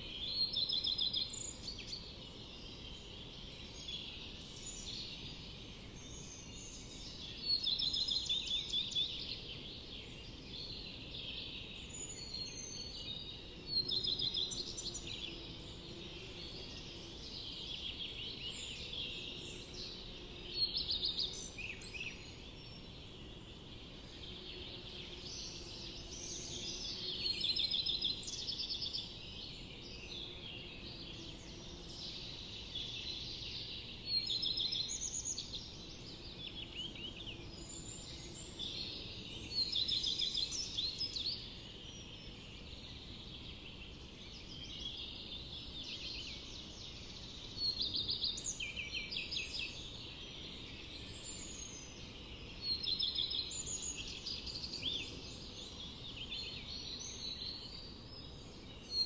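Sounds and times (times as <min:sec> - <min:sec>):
low background hiss: 0:00.0 - 0:59.0
songbirds trilling: 0:00.0 - 0:59.0.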